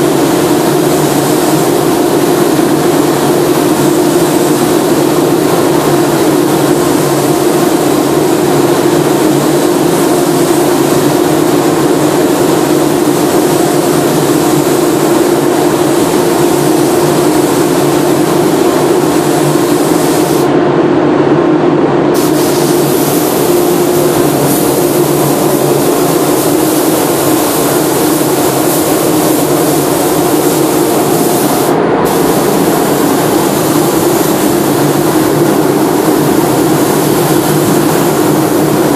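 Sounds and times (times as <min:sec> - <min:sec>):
paint spray gun hissing: 0:00.0 - 0:20.5, 0:22.2 - 0:38.9
ventilation fans humming: 0:00.0 - 0:38.9.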